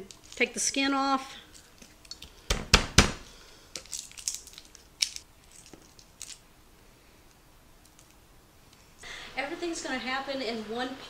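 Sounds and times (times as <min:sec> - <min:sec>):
garlic skins crackling: 0:00.0 - 0:08.9.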